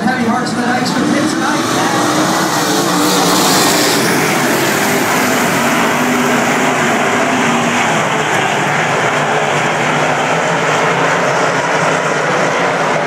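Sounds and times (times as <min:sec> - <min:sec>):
sprint car engines droning: 0:00.0 - 0:13.0.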